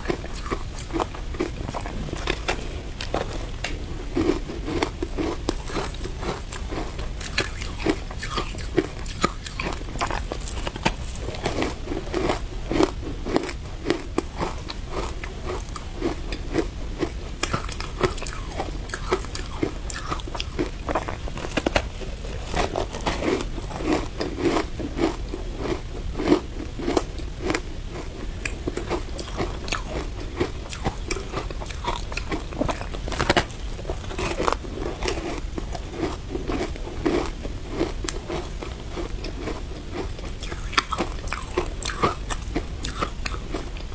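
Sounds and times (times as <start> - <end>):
crunching ice while chewing: 0.0 - 43.9.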